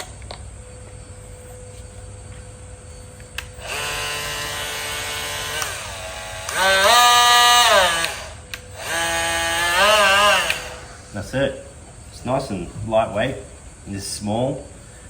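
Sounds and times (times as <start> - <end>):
oscillating multi-tool humming: 0.0 - 13.2.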